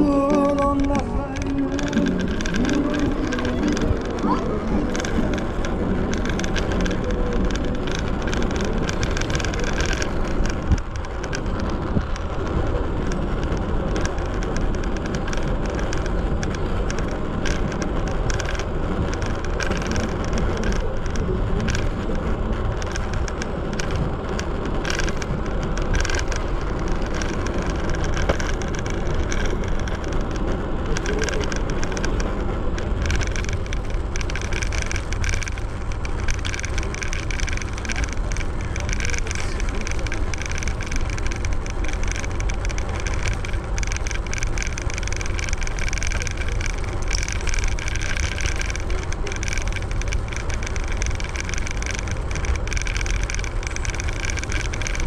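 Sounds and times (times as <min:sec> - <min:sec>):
scooter tyres road rumble: 0:00.0 - 0:55.0.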